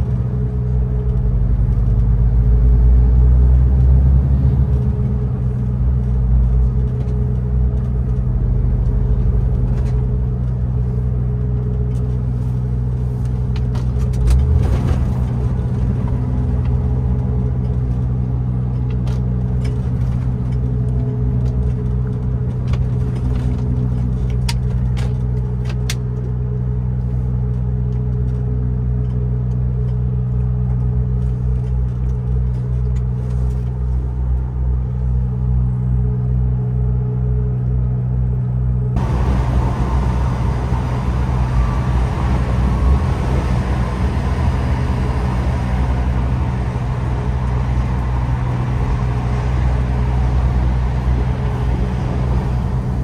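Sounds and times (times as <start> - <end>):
diesel truck engine humming: 0.0 - 53.0.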